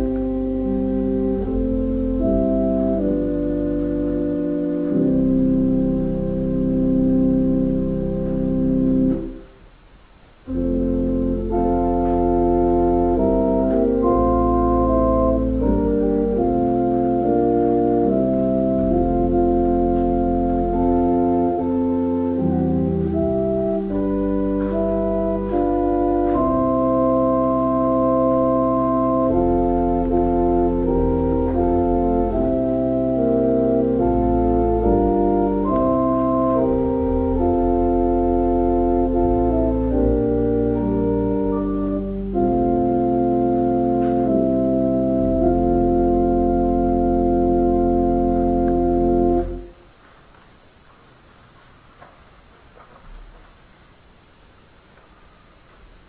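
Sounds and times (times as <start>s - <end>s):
organ playing sustained chords: 0.0s - 9.6s, 10.4s - 49.8s.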